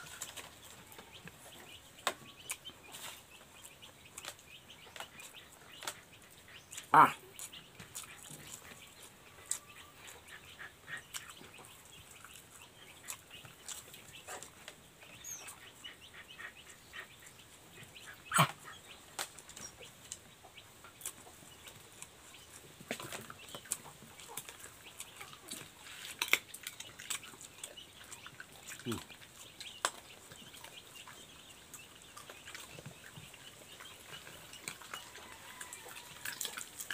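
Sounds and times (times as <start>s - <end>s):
wet chewing and lip smacks: 2.1s - 17.1s, 20.8s - 36.9s.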